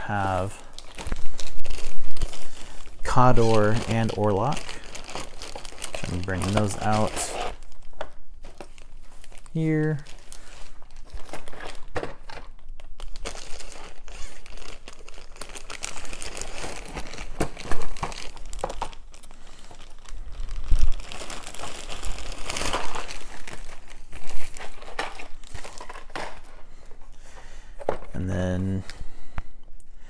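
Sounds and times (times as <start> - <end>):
packaging crinkling: 0.0 - 28.2.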